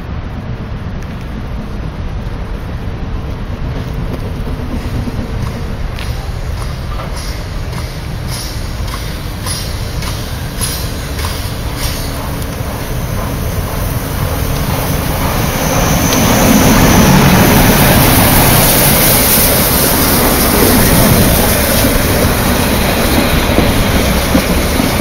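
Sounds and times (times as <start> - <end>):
train wheels rolling past: 0.0 - 25.0
steam locomotive exhaust: 0.8 - 25.0
steam hissing from cylinders: 4.6 - 25.0.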